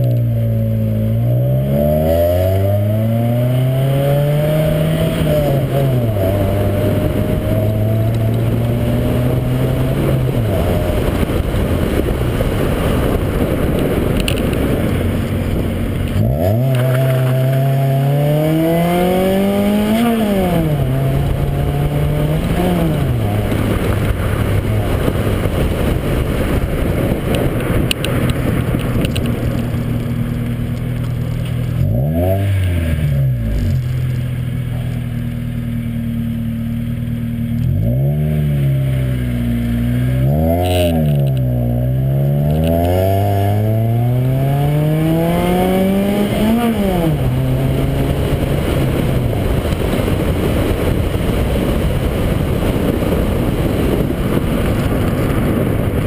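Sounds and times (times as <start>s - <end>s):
car engine revving while driving: 0.0s - 35.1s, 36.1s - 56.0s
wind buffeting microphone: 0.0s - 35.1s, 37.7s - 56.0s.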